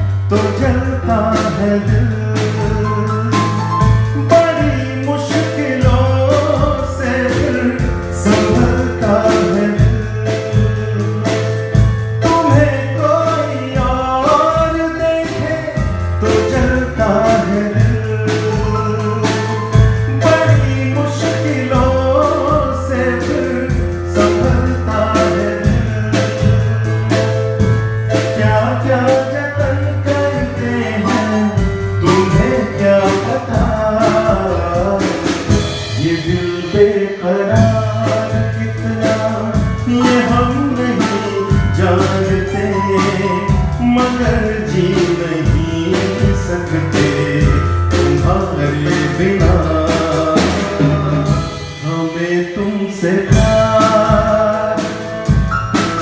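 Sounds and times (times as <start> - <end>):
drum kit with cymbals: 0.0 - 56.0
electronic keyboard: 0.0 - 56.0.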